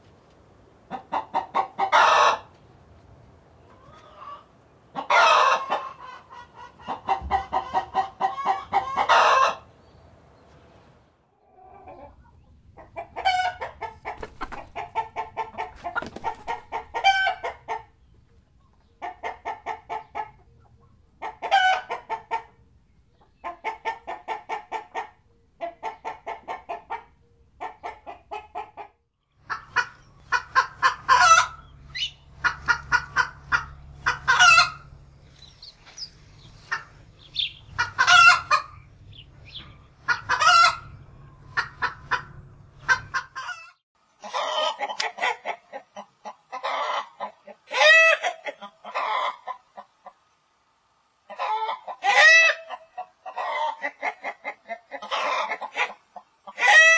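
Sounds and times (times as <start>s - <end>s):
hens cackling: 0.8s - 2.6s, 3.6s - 9.8s, 11.4s - 50.3s, 51.2s - 56.9s.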